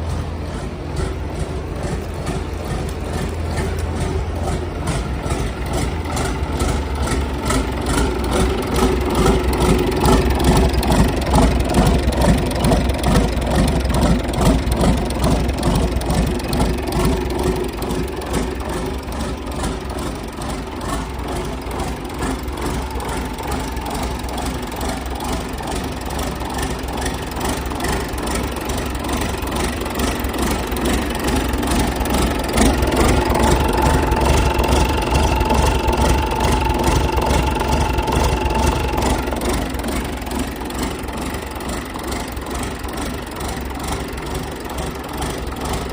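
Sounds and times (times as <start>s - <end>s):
diesel boat engine running: 0.0s - 45.9s.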